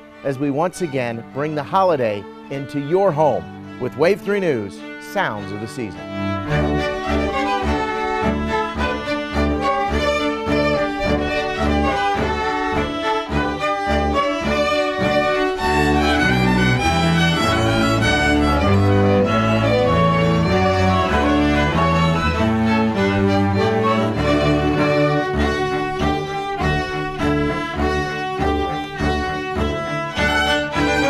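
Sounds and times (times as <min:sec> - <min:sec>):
bowed string ensemble: 0:00.0 - 0:31.0.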